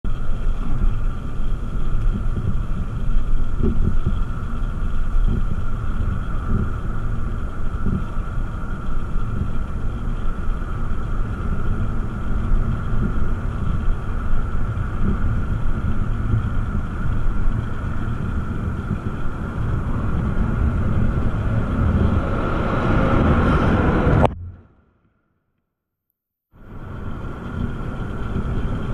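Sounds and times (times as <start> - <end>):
wind rumbling on microphone: 0.0 - 24.8, 26.6 - 28.9
small engine running with whine: 0.1 - 24.6, 26.6 - 28.9.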